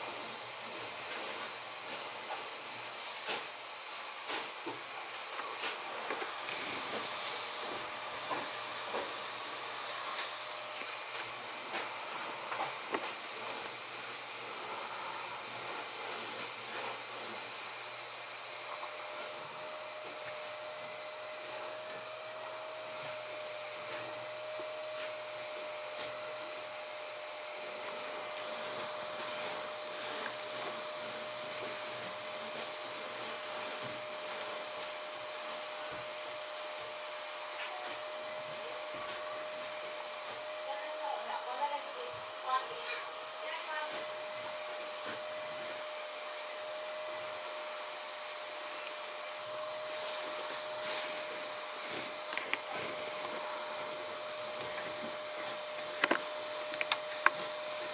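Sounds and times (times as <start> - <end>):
computer cooling fans whine: 0.0 - 57.9.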